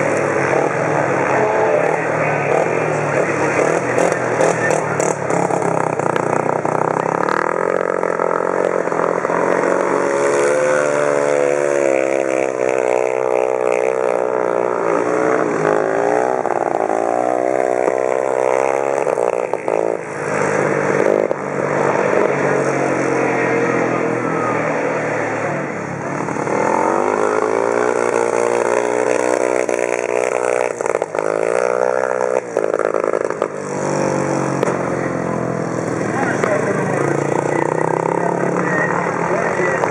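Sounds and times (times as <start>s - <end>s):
motorcycle engine racing: 0.0s - 39.9s.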